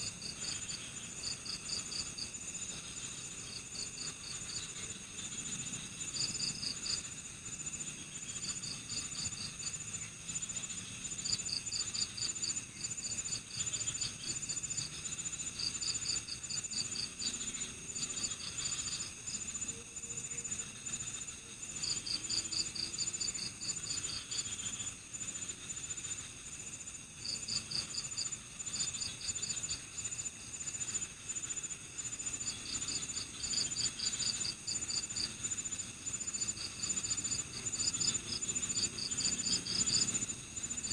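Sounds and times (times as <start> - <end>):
cricket chirping in rapid pulses: 0.0 - 40.9
cricket steady high trill: 0.0 - 40.9.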